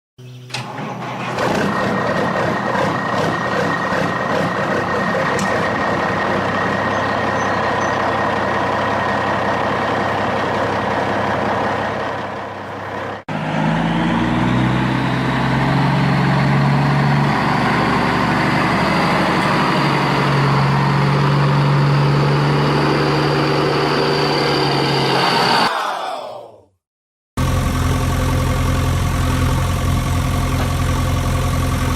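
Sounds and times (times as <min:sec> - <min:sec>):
heavy vehicle engine running: 0:00.2 - 0:25.7, 0:27.4 - 0:31.9
deeper engine sound: 0:00.2 - 0:25.9, 0:27.4 - 0:31.9.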